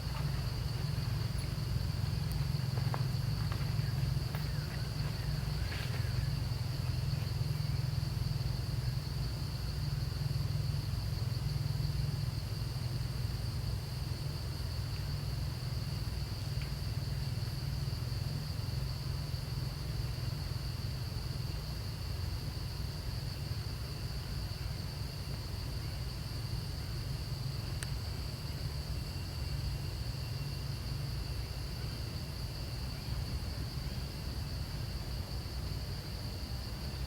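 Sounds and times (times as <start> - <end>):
high insect drone: 0.0 - 37.0.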